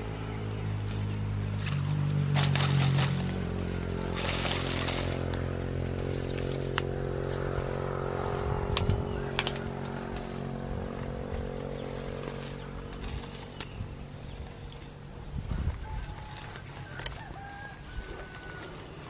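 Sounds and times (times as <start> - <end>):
low motor-like hum: 0.0 - 19.0.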